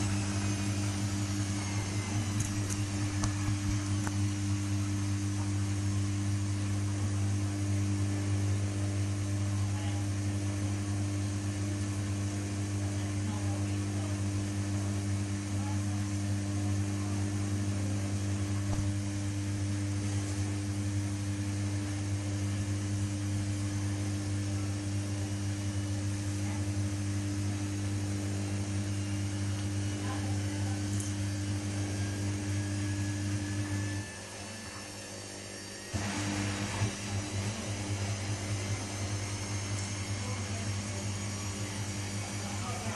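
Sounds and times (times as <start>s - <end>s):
washing machine hum: 0.0s - 42.9s.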